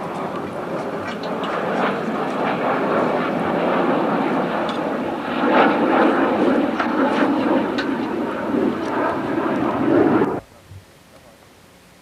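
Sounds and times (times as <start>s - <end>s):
aircraft engine rushing: 0.0s - 10.4s.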